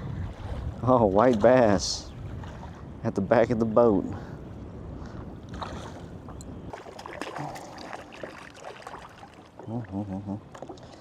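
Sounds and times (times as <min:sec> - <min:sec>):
water around a boat: 0:00.0 - 0:11.0.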